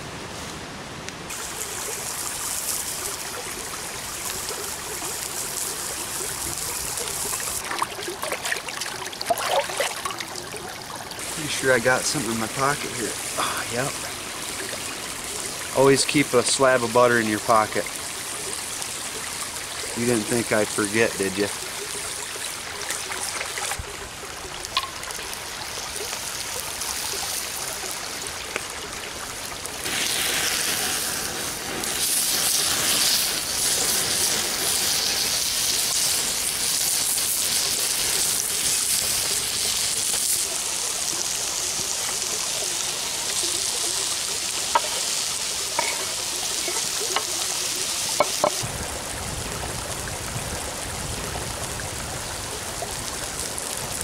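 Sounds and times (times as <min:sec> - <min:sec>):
meat sizzling on hot stone: 0:01.3 - 0:54.0.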